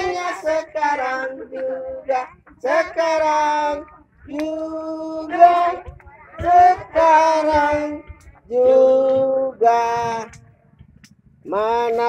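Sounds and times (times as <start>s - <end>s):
voices singing birthday song: 0.0s - 10.4s.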